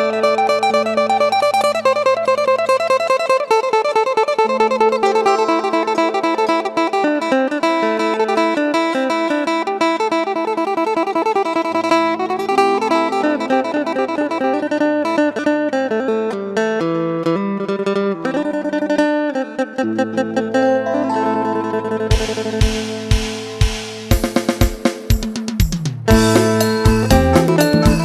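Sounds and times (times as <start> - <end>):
plucked lute melody: 0.0 - 24.2.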